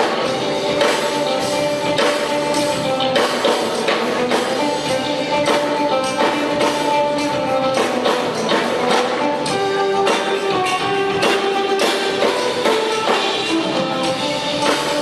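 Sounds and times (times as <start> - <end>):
percussion strikes: 0.0 - 15.0
rock band playing live: 0.0 - 15.0.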